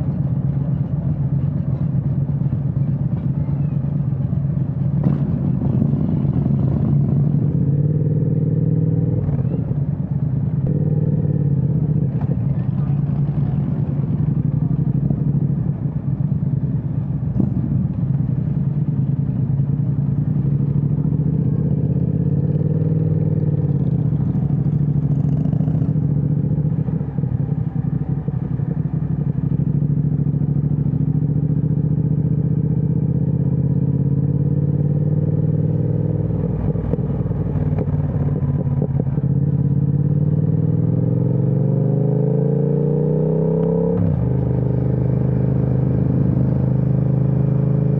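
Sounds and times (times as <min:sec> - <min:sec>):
motorcycle engine cruising: 0:00.0 - 0:47.9.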